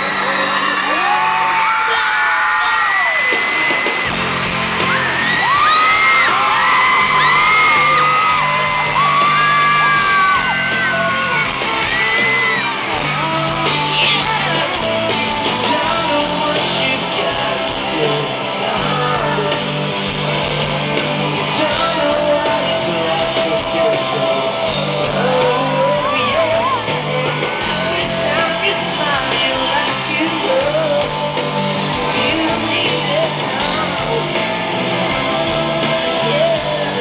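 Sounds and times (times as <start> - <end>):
crowd screaming: 0.0 - 37.0
live pop-rock band: 0.0 - 37.0.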